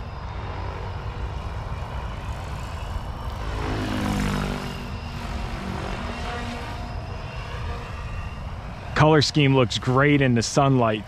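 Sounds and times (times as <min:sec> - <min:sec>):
rc helicopter rotor hum and whine: 0:00.0 - 0:11.0.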